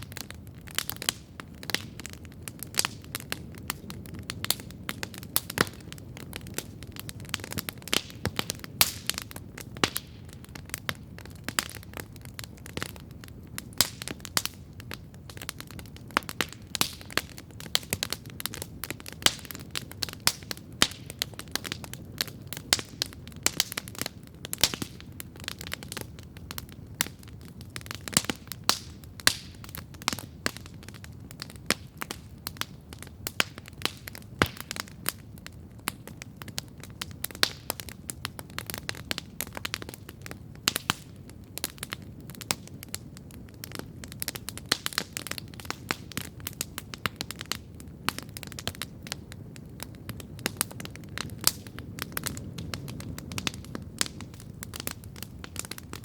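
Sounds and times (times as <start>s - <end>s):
campfire popping and snapping: 0.0s - 56.0s
low rush of flames: 0.0s - 56.0s.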